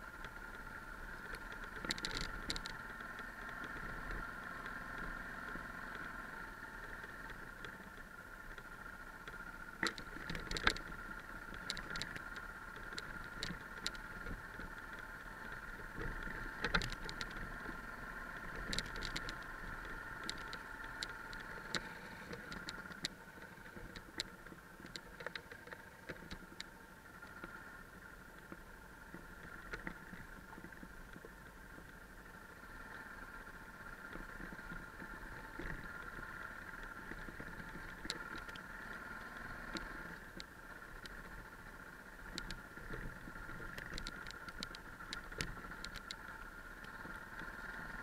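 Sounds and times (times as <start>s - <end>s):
bike knocking and rattling: 0.0s - 48.0s
motorcycle engine humming: 0.0s - 48.0s.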